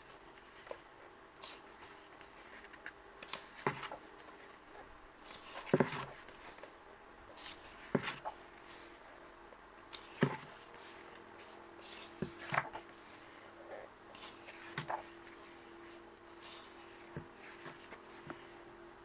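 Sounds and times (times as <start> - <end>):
book pages turning: 0.0 - 9.0, 9.9 - 13.5, 14.1 - 18.6
faint steady hum: 0.0 - 19.0.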